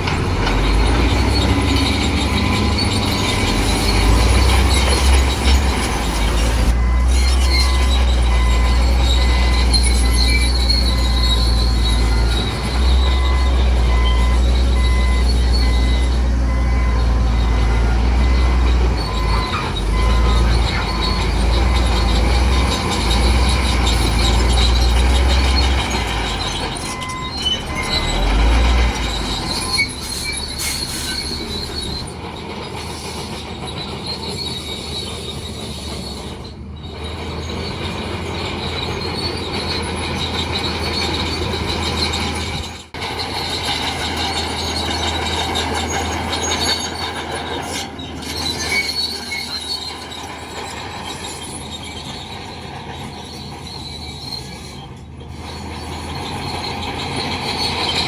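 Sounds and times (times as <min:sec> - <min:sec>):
bulldozer diesel engine rumble: 0:00.0 - 0:58.0
metal crawler tracks squealing: 0:00.0 - 0:58.0.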